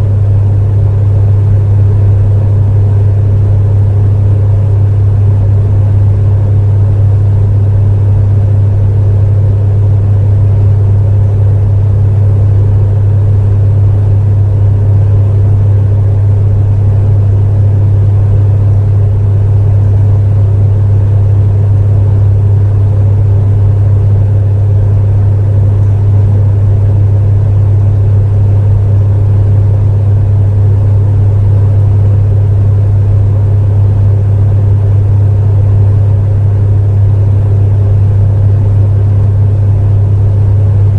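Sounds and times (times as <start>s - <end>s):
space heater fan humming: 0.0s - 40.9s.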